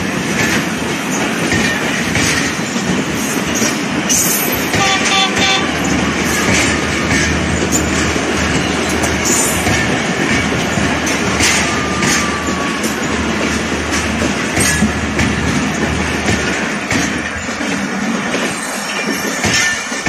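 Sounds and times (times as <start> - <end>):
train wheels rushing past: 0.0 - 20.0
wheels clacking over rail joints: 0.0 - 20.0.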